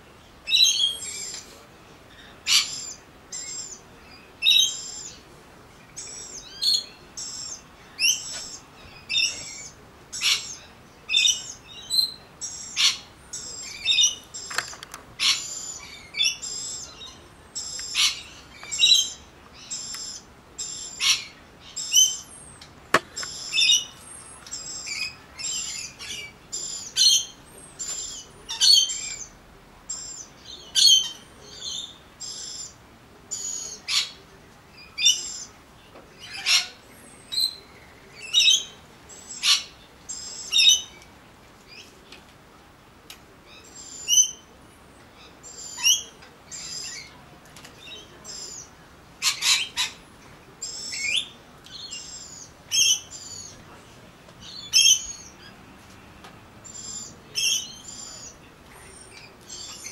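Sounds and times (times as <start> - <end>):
birds chirping: 0.0 - 42.3, 43.0 - 59.9.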